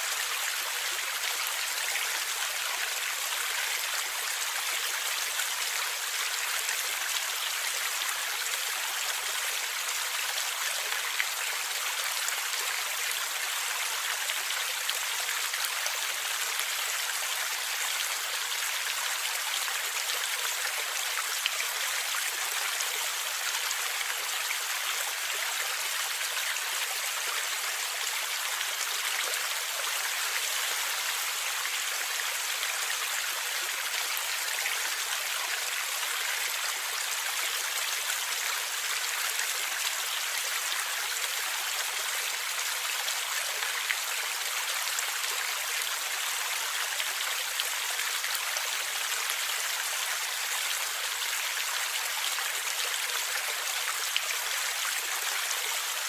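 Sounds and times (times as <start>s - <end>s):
stream water gurgling: 0.0s - 56.0s.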